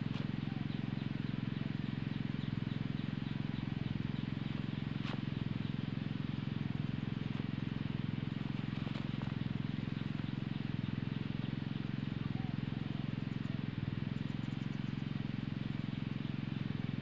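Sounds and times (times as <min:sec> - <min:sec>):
low pulsing drone: 0:00.0 - 0:17.0.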